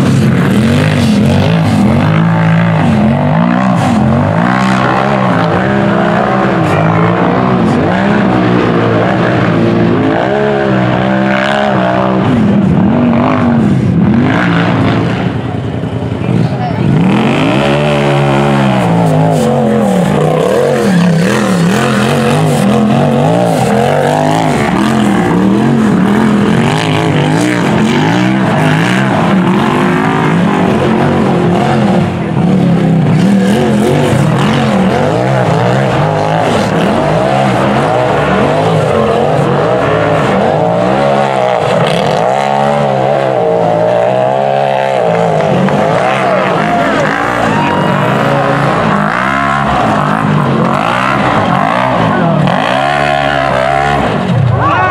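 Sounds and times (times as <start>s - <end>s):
buggy engine revving unevenly: 0.0s - 54.9s.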